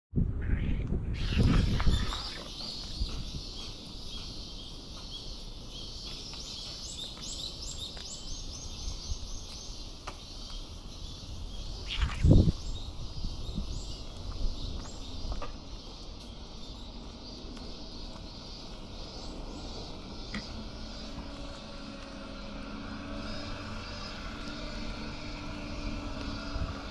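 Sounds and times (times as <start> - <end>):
wind rumble on microphone: 0.1 - 6.5, 7.2 - 26.9
small birds chirping: 0.4 - 26.9.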